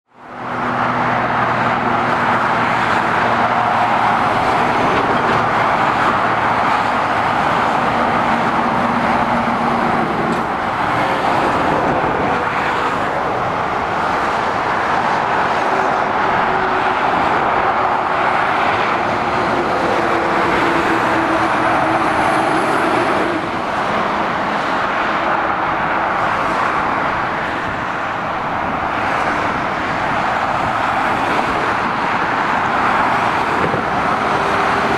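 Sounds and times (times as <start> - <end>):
road traffic tyre noise: 0.0 - 34.9
lorry diesel engines humming: 0.1 - 34.9.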